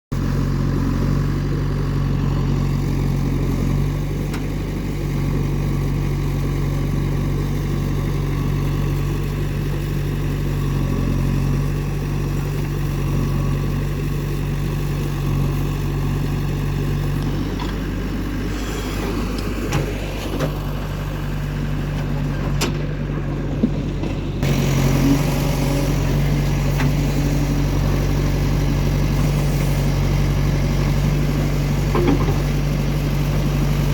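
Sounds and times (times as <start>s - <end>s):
heavy diesel engine running: 0.1s - 33.9s.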